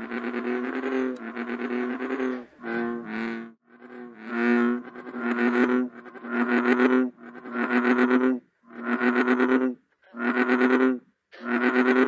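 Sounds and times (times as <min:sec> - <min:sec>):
bullfrogs calling: 0:00.0 - 0:12.0.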